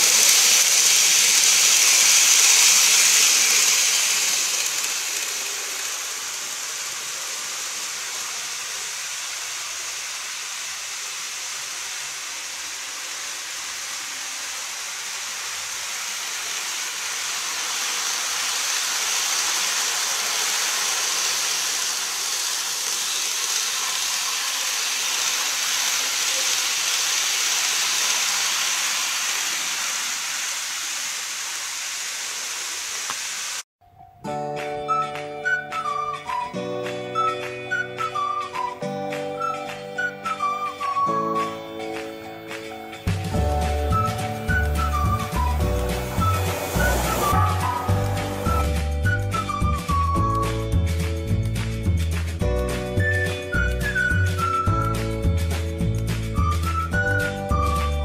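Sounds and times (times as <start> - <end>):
model train hissing on track: 0.0 - 33.6, 37.2 - 50.5, 52.2 - 58.0.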